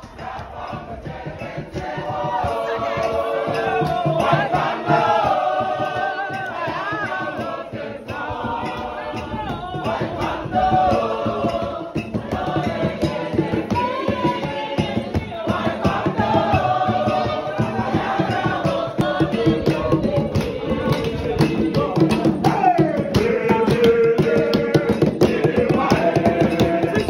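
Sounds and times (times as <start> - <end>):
choir singing: 0.0 - 27.0.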